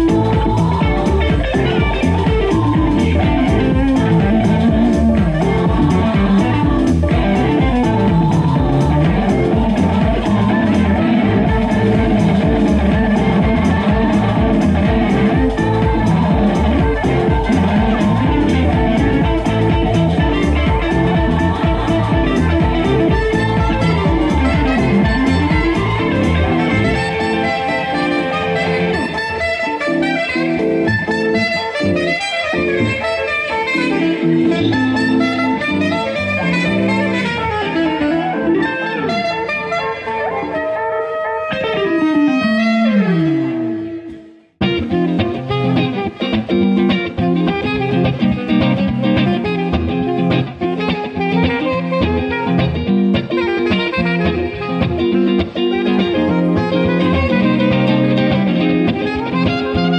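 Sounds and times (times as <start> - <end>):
beat and percussion: 0.0 - 40.1, 44.1 - 59.9
electric guitar: 0.0 - 59.9
saxophone: 0.0 - 59.9.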